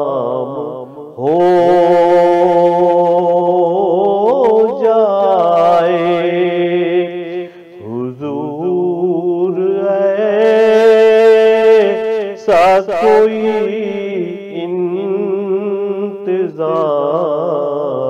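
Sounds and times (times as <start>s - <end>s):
man singing long held notes: 0.0s - 18.0s.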